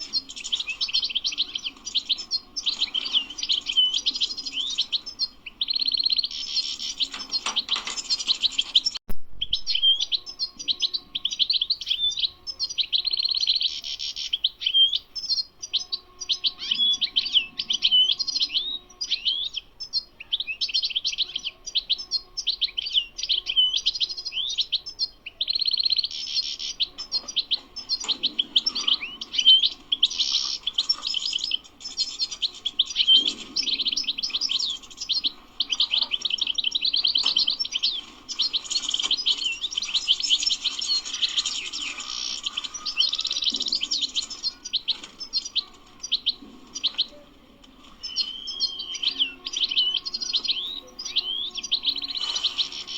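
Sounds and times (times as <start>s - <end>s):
goldfinch twittering song: 0.0s - 47.2s, 47.8s - 52.9s.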